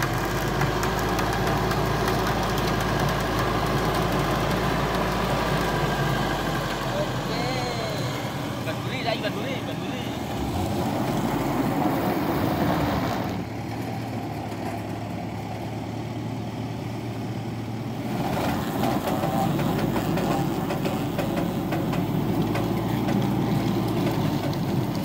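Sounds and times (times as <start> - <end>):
suv engine running under load: 0.0 - 25.0.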